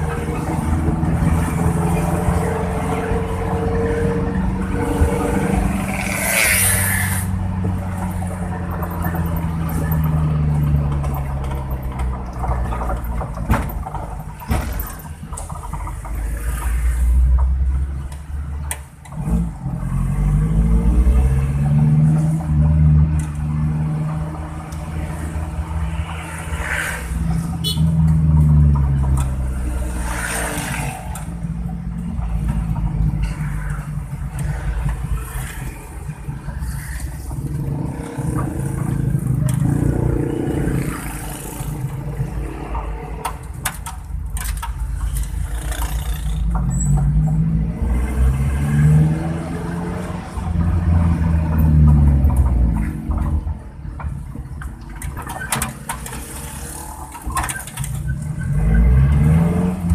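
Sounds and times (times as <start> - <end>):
engine and exhaust revving: 0.0 - 14.0, 15.5 - 54.4, 55.9 - 59.9.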